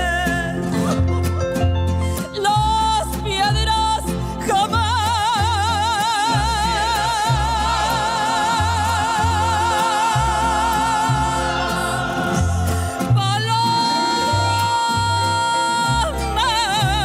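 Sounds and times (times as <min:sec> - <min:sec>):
mariachi band accompaniment: 0:00.0 - 0:17.0
pulsing bass line: 0:02.7 - 0:17.0.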